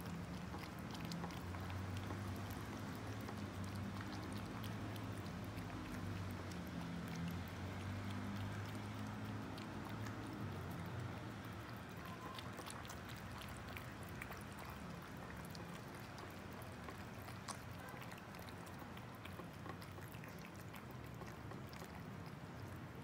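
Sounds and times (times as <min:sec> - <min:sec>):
cats chewing wet food: 0:00.0 - 0:23.0.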